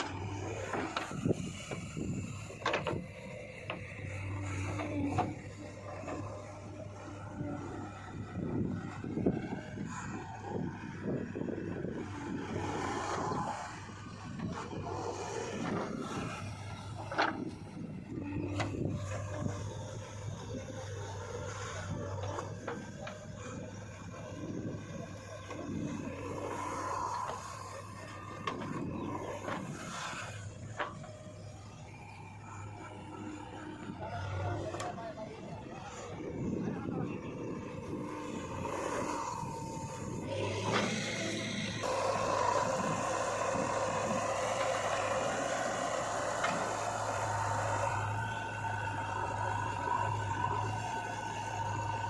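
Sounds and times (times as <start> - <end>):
heavy machine engine running: 0.0 - 52.0.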